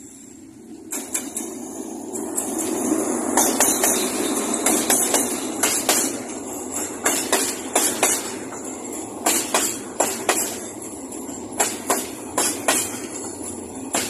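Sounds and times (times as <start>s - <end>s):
steel wheels rumbling on rail: 0.0s - 14.0s
wheels clacking over rail joints: 0.7s - 14.0s.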